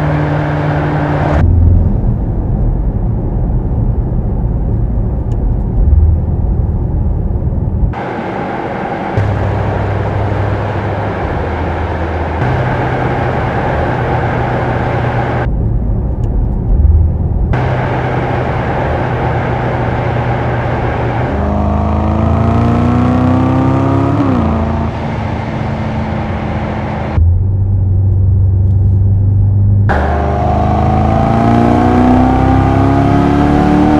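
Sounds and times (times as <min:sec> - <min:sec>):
car engine running and revving: 0:00.0 - 0:33.9.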